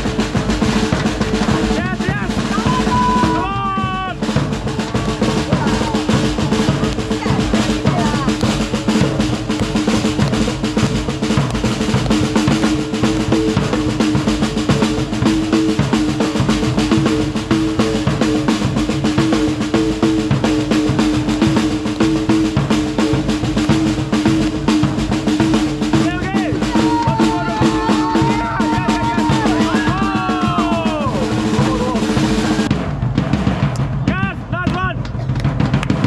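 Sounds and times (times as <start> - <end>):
drums beating fast rhythm: 0.0 - 36.0.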